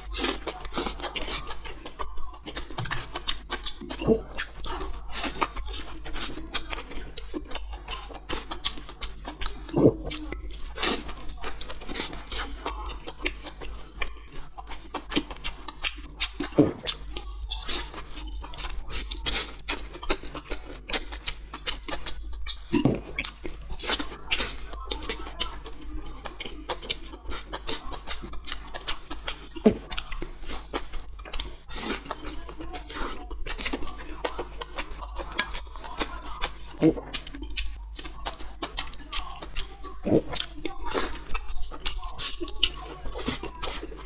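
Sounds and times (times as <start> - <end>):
chewing food: 0.0 - 44.0
steady low hum: 0.0 - 44.0.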